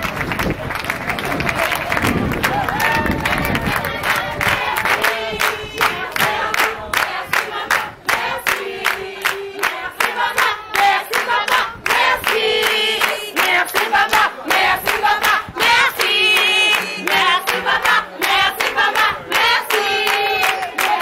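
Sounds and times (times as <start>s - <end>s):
rhythmic hand clapping: 0.0s - 21.0s
group singing: 3.2s - 21.0s.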